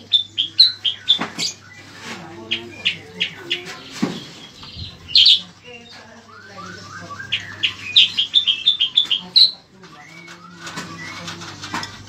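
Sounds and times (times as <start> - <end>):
songbird singing high chirps: 0.0 - 11.2.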